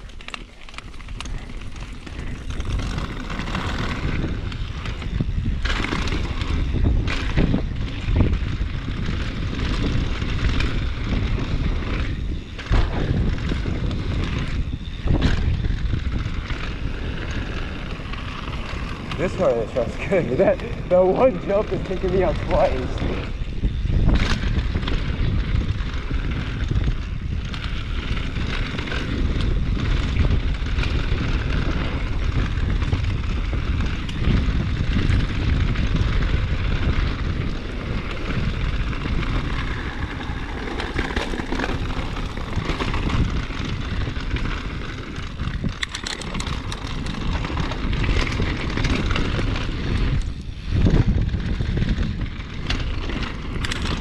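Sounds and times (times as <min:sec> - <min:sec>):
tyres on dirt: 0:00.0 - 0:54.0
wind on microphone: 0:00.0 - 0:54.0.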